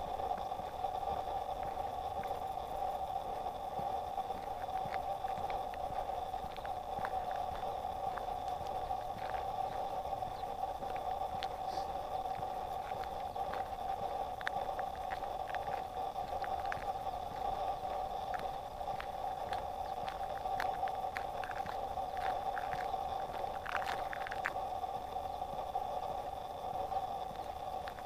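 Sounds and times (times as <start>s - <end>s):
vehicle rolling on asphalt: 0.0s - 28.0s.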